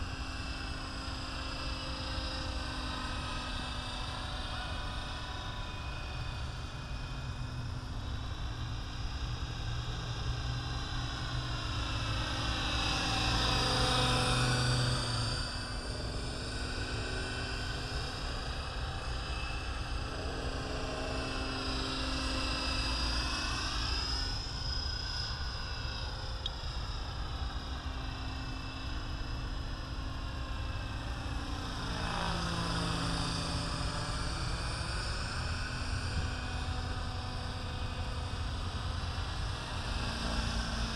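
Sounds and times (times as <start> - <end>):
rc helicopter motor and rotor whine: 0.0 - 40.9.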